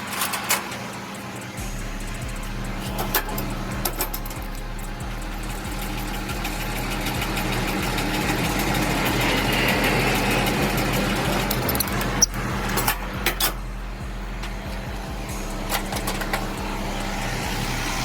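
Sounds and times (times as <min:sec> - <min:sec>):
hiss: 0:00.0 - 0:18.0
diesel truck engine idling: 0:01.0 - 0:18.0.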